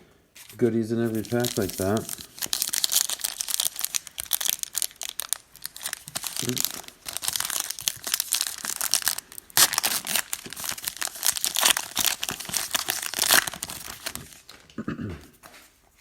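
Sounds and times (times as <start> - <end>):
card pack wrappers crinkling: 0.4 - 14.7.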